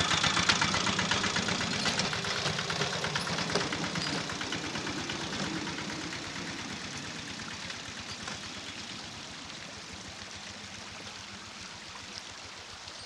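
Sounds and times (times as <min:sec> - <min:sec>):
diesel locomotive engine: 0:00.0 - 0:12.8
stream water running: 0:00.0 - 0:13.0.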